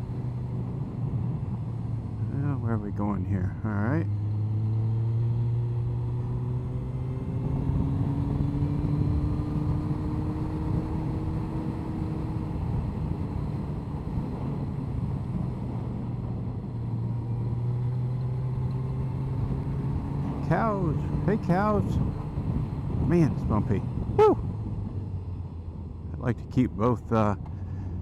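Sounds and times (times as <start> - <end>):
motorcycle engine cruising: 0.0 - 28.0
wind and road noise: 0.0 - 28.0.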